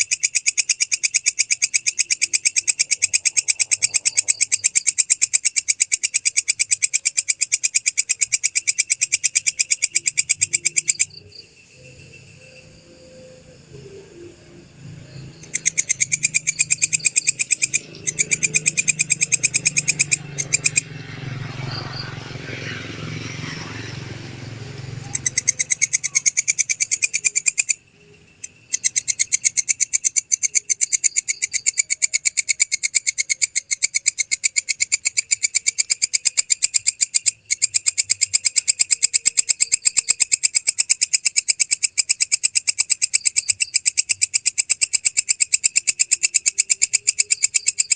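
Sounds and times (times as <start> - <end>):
insect shrill ticking: 0.0 - 47.9.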